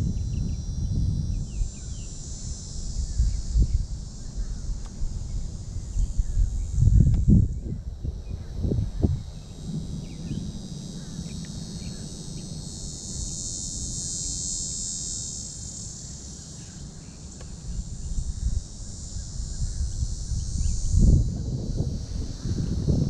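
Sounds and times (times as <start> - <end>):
low microphone rumble: 0.0 - 14.0, 17.6 - 23.0
insects buzzing: 0.0 - 23.0.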